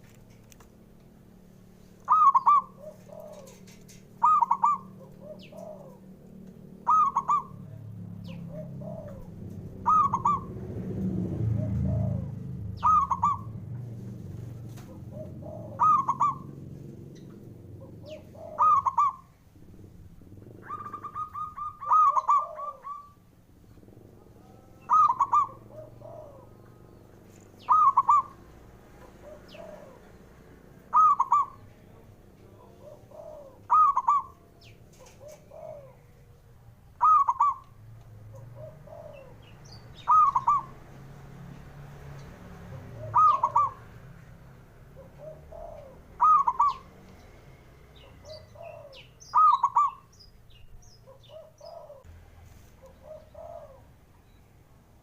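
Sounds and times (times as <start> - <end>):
dove cooing: 1.8 - 41.2, 42.0 - 47.4, 48.0 - 52.1, 52.8 - 54.4.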